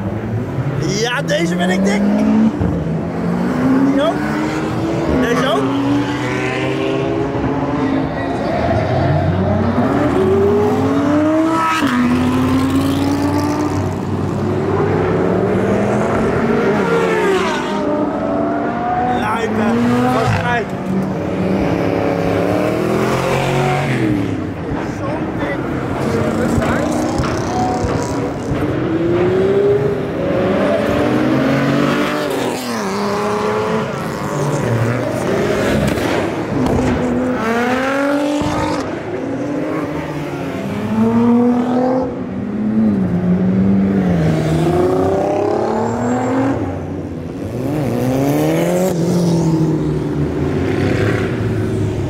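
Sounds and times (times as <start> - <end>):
sports car engines revving: 0.0 - 52.0.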